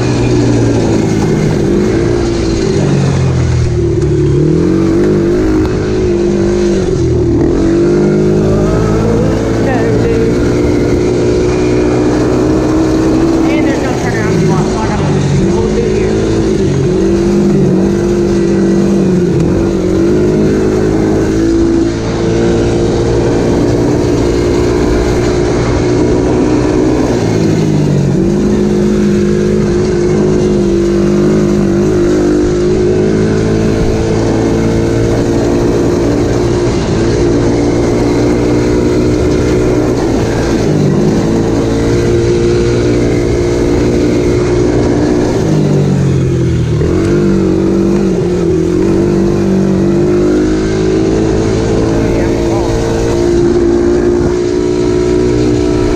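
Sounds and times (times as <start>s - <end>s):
dirt bike engine running: 0.0s - 55.9s.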